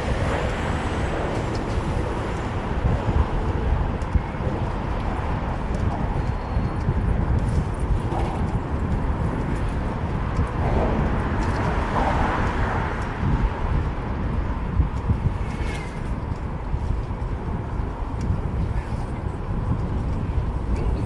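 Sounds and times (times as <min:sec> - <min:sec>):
bicycle tyre noise rolling: 0:00.0 - 0:21.0
wind buffeting microphone: 0:00.0 - 0:21.0.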